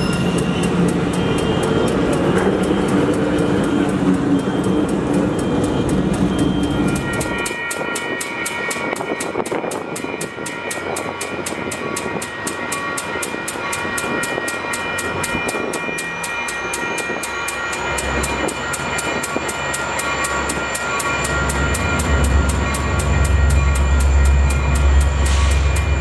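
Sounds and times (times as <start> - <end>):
locomotive bell ringing: 0.0 - 26.0.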